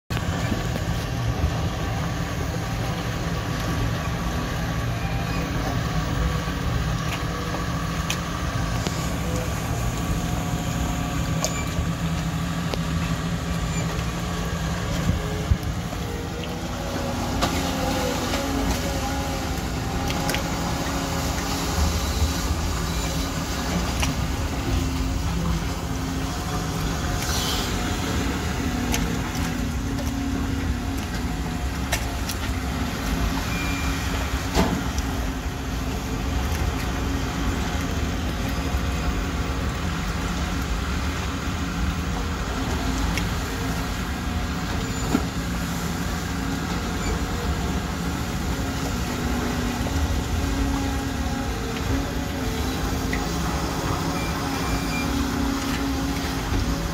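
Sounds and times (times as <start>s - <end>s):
excavator diesel engine running: 0.1s - 56.9s.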